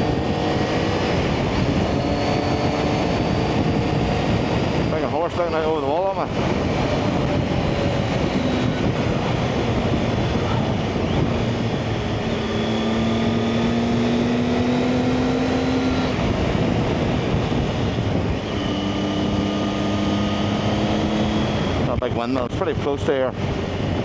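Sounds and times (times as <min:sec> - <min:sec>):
motorcycle engine running: 0:00.0 - 0:24.0
wind rushing on microphone: 0:00.0 - 0:24.0.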